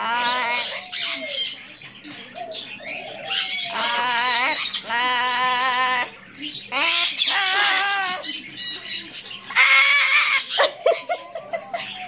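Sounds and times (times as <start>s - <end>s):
parrot singing: 0.0s - 1.7s, 2.4s - 12.0s.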